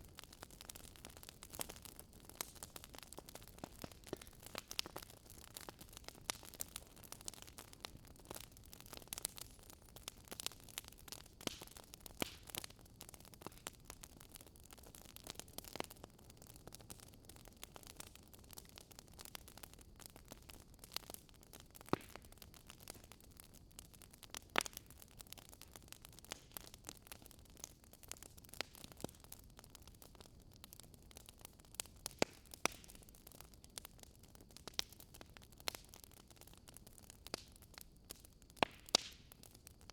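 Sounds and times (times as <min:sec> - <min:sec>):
bonfire crackling and popping: 0:00.0 - 0:39.9
faint hiss of burning: 0:00.0 - 0:39.9.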